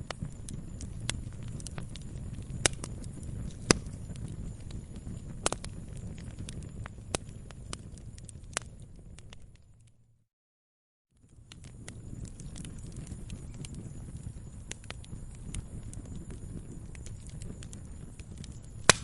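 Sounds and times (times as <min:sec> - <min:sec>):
wood fire crackling: 0:00.0 - 0:10.0, 0:11.2 - 0:19.0
low rumble of burning: 0:00.0 - 0:10.2, 0:11.1 - 0:19.0.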